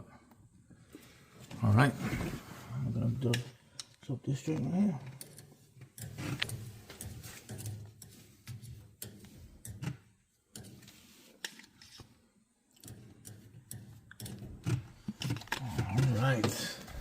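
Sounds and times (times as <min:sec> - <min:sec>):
faint clicks and handling noises: 0:03.2 - 0:17.0.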